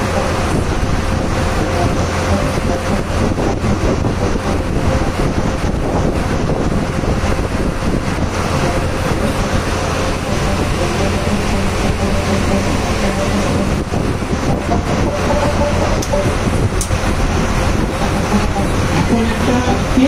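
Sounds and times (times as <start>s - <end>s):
boat engine humming: 0.0s - 20.0s
wind and water rushing: 0.0s - 20.0s.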